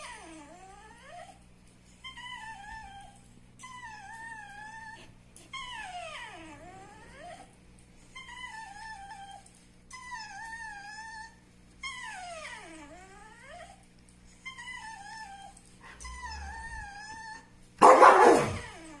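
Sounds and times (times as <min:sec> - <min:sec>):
dog whining: 0:00.0 - 0:19.0.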